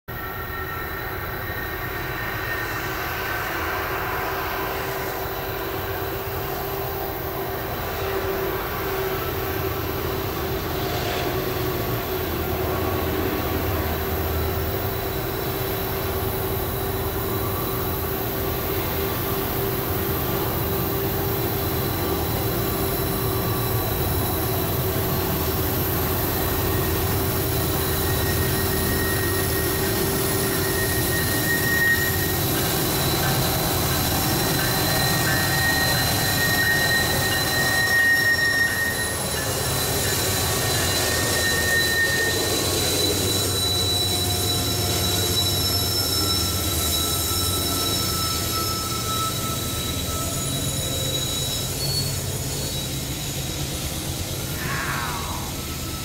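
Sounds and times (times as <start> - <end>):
diesel locomotive engine rumble: 0.1 - 56.0.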